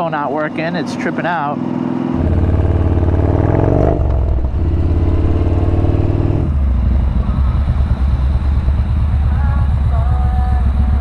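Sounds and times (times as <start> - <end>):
motorcycle engine running: 1.9 - 11.0.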